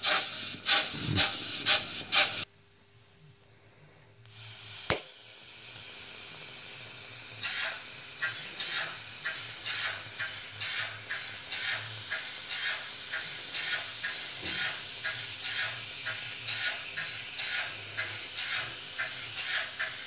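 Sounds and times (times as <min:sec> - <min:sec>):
model locomotive steam chuffs: 0:00.0 - 0:02.5, 0:04.3 - 0:20.0.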